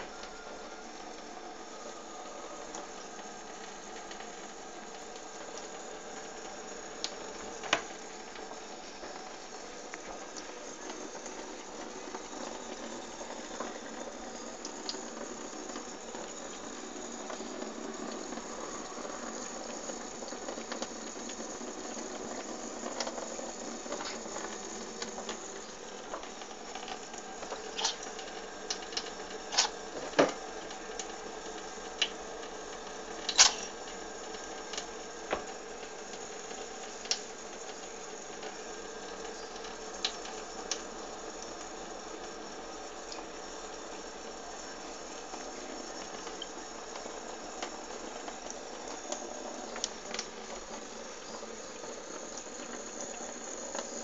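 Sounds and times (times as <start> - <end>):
running water hiss: 0.0 - 54.0.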